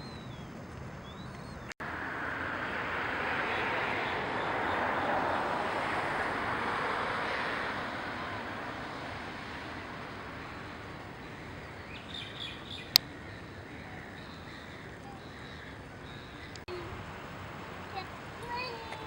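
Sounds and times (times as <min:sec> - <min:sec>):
aircraft rumble: 0:00.0 - 0:19.0.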